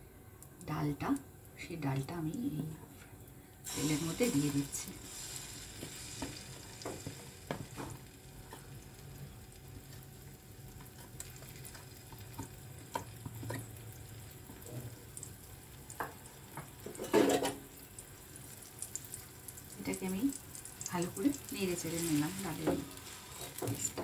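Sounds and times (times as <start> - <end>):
paste sizzling in oil: 3.6 - 24.0.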